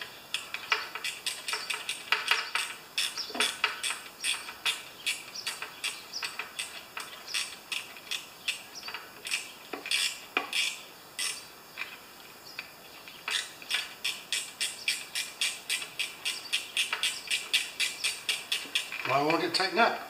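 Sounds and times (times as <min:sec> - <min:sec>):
ratchet clicking: 0:00.3 - 0:11.4, 0:13.3 - 0:19.4.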